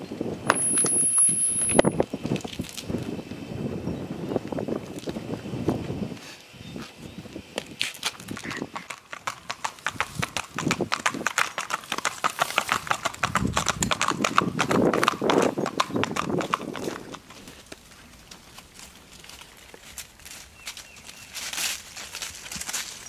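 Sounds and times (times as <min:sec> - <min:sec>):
horse hooves clip-clopping on road: 0:00.4 - 0:03.4, 0:06.8 - 0:23.0.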